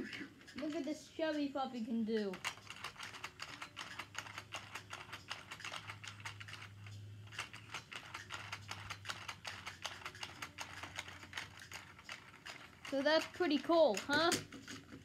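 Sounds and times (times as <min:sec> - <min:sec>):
plastic toy clicks and taps: 0:00.0 - 0:15.0.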